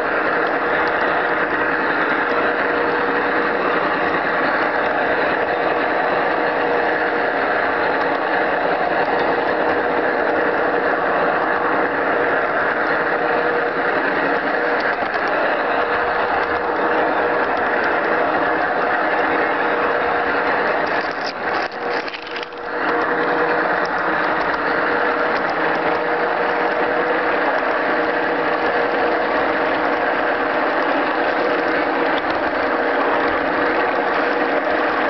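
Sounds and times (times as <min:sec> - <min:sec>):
model train clattering whir: 0:00.0 - 0:35.0.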